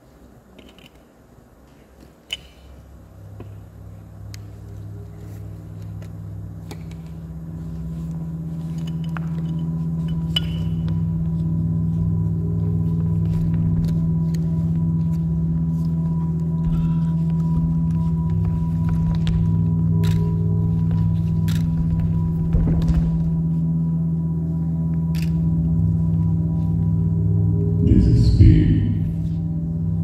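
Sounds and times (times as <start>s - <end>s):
low sustained drone: 3.1s - 30.0s.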